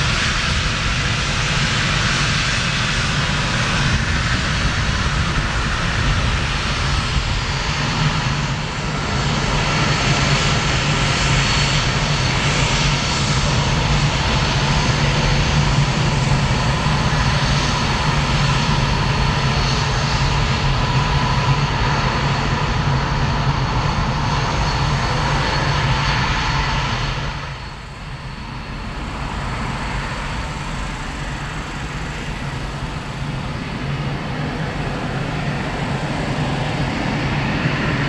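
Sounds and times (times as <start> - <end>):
jet engine rumble and whine: 0.0 - 38.0.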